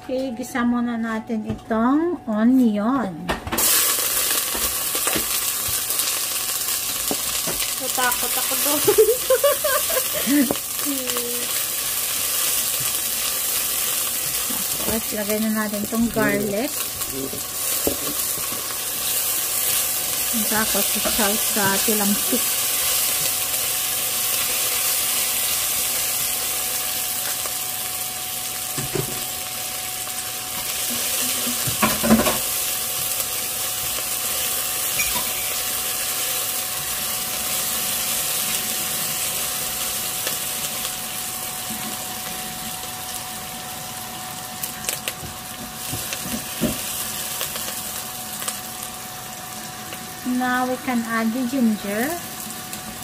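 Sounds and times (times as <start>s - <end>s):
onions sizzling in hot oil: 3.5s - 53.0s.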